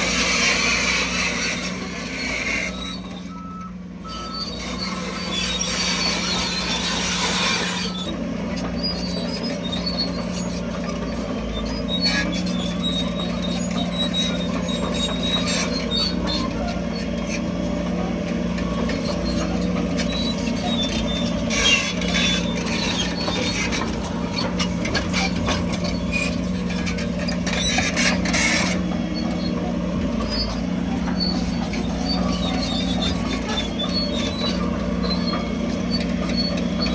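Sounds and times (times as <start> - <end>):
bulldozer diesel engine running: 0.0 - 36.9
crawler tracks squealing and clanking: 0.0 - 36.9.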